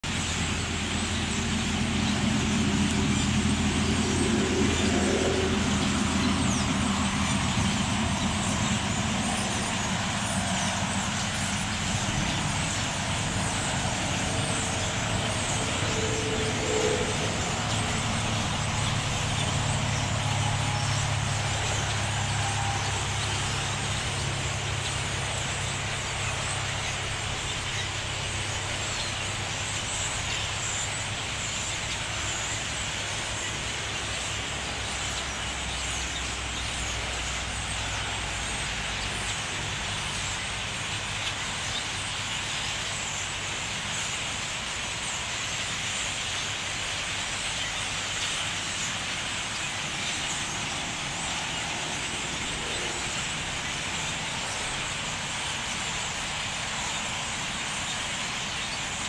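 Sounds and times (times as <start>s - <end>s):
low traffic rumble: 0.0s - 59.0s
flock of birds chattering: 0.1s - 59.0s.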